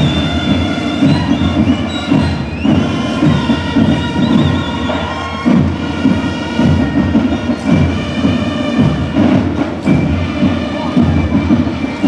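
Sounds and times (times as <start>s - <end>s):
loud dense drumming: 0.0s - 12.0s
marching band playing: 0.0s - 12.0s.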